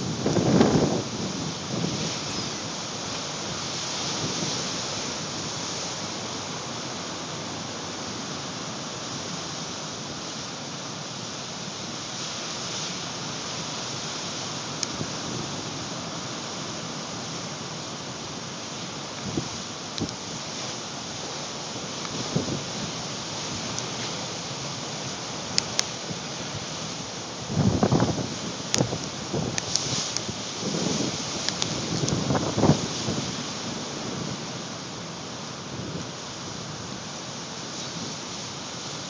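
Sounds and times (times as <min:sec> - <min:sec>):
waves breaking: 0:00.0 - 0:39.0
wind: 0:00.0 - 0:39.0.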